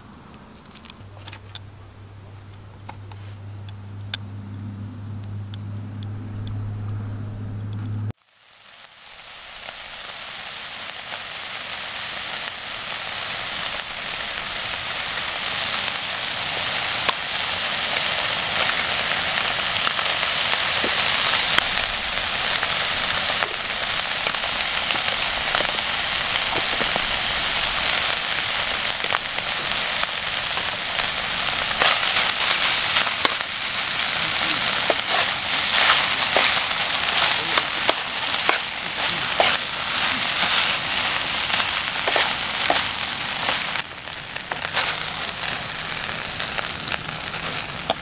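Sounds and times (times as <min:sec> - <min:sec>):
fish sizzling in a pan: 0:08.2 - 0:48.0.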